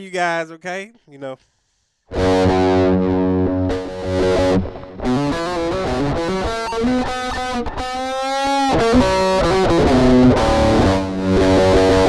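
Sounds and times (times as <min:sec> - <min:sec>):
distorted electric guitar notes: 0:02.1 - 0:12.0.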